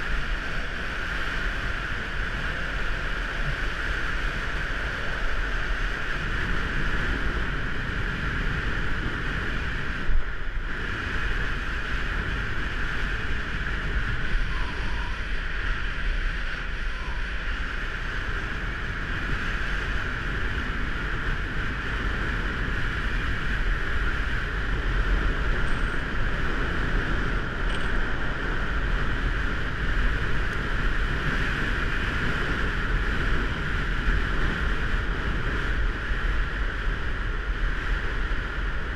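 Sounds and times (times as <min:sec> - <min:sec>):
skateboard wheels rolling on asphalt: 0:00.0 - 0:38.9
wind rushing over microphone: 0:00.0 - 0:38.9.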